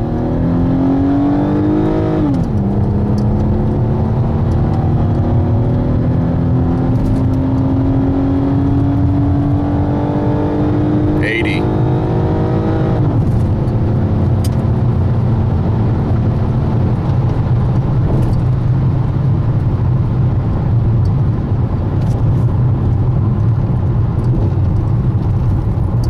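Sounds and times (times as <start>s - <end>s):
car engine accelerating: 0.0s - 26.0s
road and wind noise: 0.0s - 26.0s.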